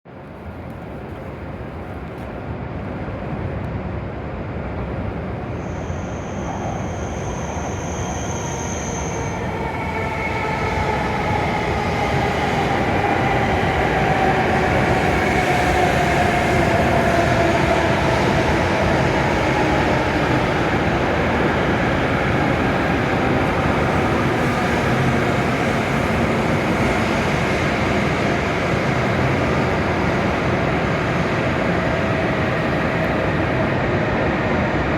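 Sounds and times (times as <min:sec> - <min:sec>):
train pulling into platform: 0:00.1 - 0:34.9.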